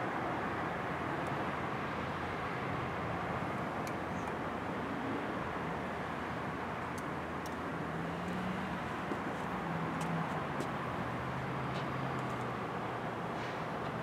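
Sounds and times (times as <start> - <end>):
outdoor traffic noise: 0.0 - 14.0.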